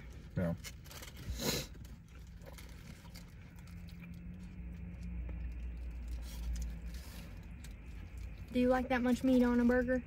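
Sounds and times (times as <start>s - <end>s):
people chewing: 0.0s - 8.6s
steady low hum: 0.0s - 10.0s.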